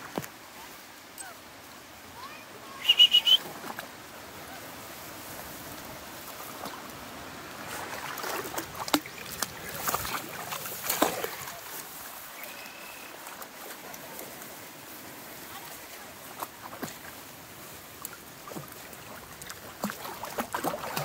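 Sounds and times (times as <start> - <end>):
puppies splashing in water: 2.2 - 21.0.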